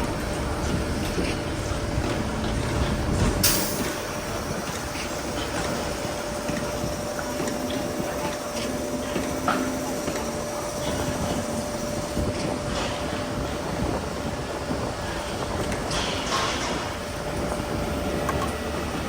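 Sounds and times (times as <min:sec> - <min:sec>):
truck engine and machinery running: 0:00.0 - 0:19.0.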